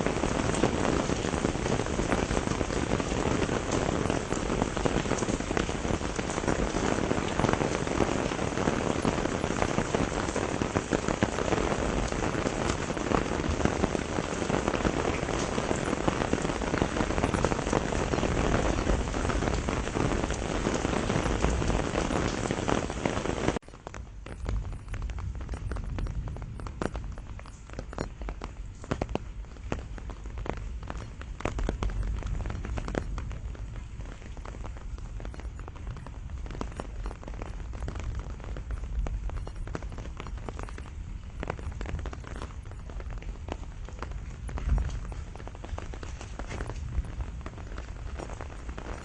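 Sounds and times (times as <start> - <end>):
heavy rain: 0.0 - 49.0
scattered water drops: 0.0 - 49.0.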